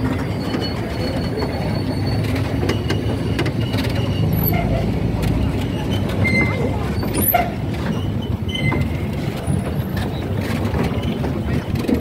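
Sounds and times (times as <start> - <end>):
high squeak and clank: 0.0 - 12.0
train wheels rumbling on rails: 0.0 - 12.0.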